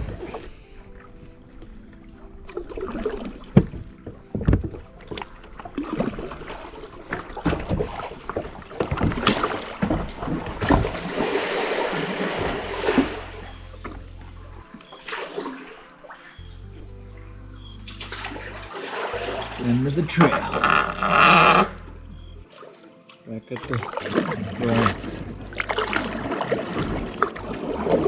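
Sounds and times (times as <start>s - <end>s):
water splashing: 0.0s - 28.0s.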